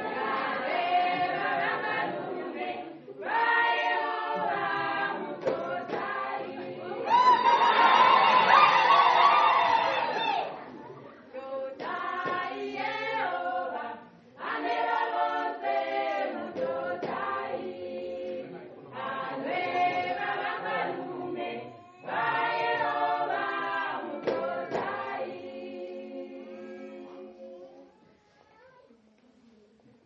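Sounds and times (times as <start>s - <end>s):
choir singing unaccompanied: 0.0s - 10.6s, 11.3s - 27.9s.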